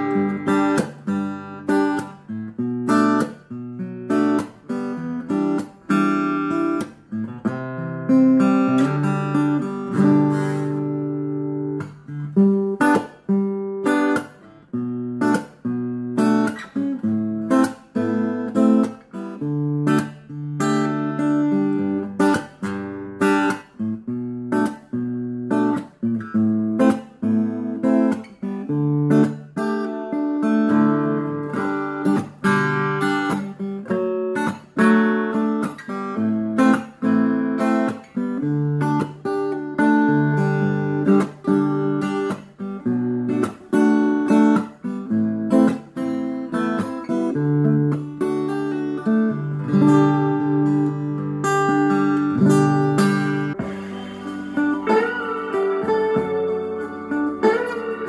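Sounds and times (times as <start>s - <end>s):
acoustic guitar through amplifier: 0.0s - 58.0s.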